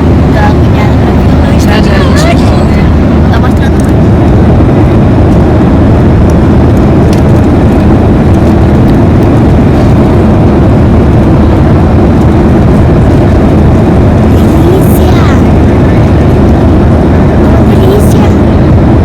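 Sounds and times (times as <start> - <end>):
airliner cabin engine noise: 0.0 - 19.0.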